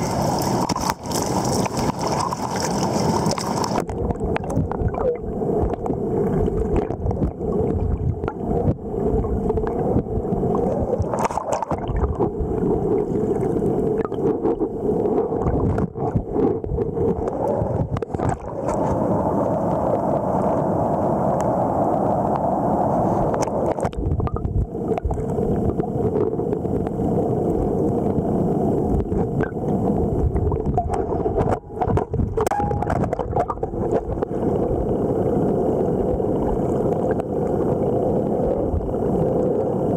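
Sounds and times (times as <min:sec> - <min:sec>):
muffled underwater river gurgling: 0:00.0 - 0:39.9.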